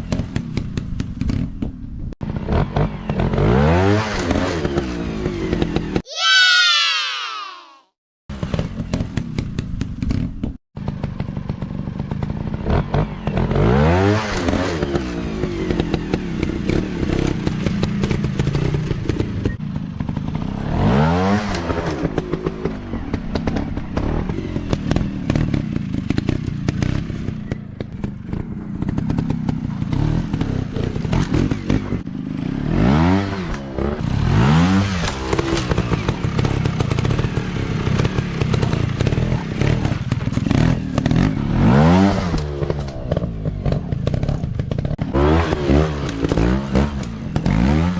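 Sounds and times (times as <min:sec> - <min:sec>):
dirt bike engine revving: 0:02.2 - 0:07.3, 0:12.0 - 0:47.9.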